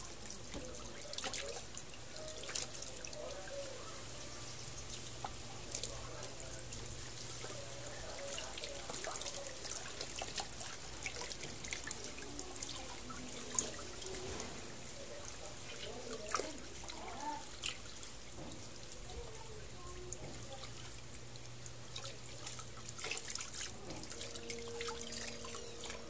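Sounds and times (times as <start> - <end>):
hose water splashing on puppy: 0.0 - 26.0.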